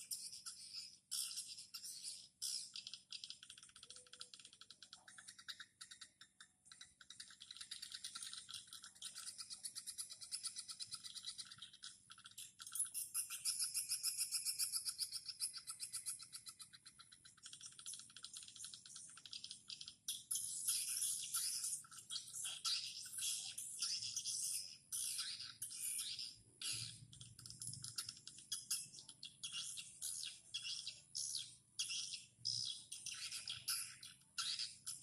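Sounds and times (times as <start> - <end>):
birds twittering clicking chirps: 0.0 - 35.0.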